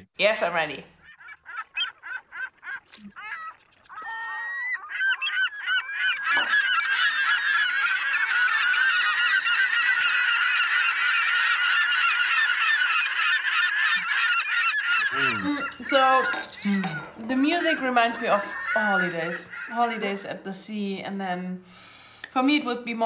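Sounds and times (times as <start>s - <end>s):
seabirds calling: 0.2s - 23.0s.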